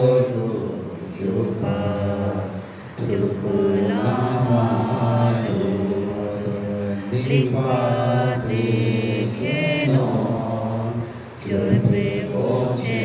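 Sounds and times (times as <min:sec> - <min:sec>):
low voices chanting: 0:00.0 - 0:13.0.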